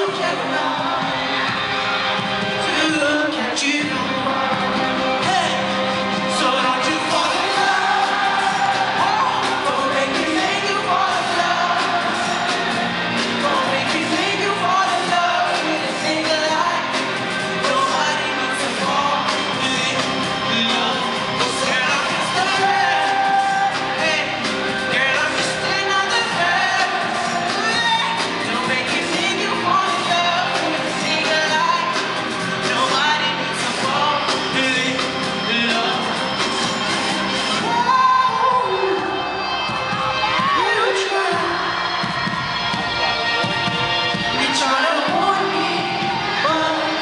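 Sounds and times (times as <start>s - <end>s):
man singing into microphone: 0.0s - 1.4s, 2.5s - 12.5s, 13.2s - 36.6s, 43.0s - 47.0s
live band playing: 0.0s - 47.0s.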